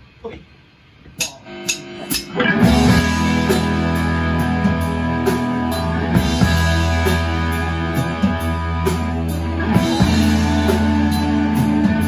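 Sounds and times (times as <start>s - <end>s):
rock band playing live: 1.2s - 12.0s.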